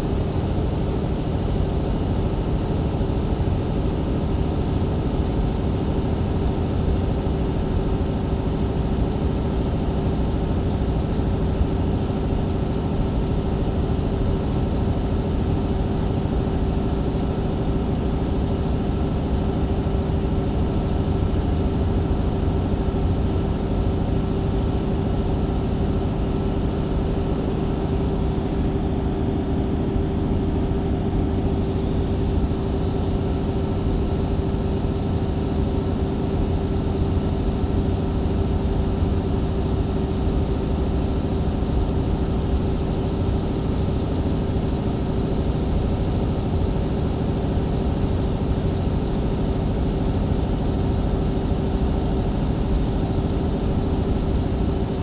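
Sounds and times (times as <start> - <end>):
bus drivetrain hum and whine: 0.0 - 55.0.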